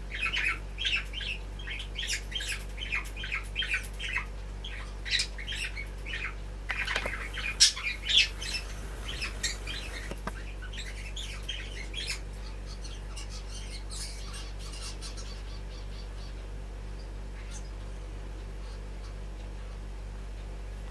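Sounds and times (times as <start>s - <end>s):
starlings squawking and chirping: 0.0s - 19.9s
low steady hum: 0.0s - 20.9s.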